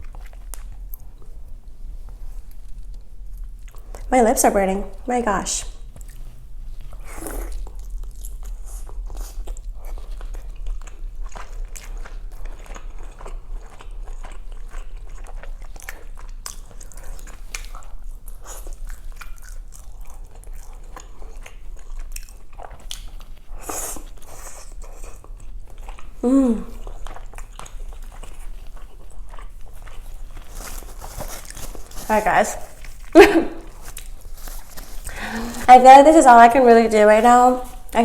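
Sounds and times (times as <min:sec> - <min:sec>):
chewing and crunching food: 0:00.0 - 0:38.0.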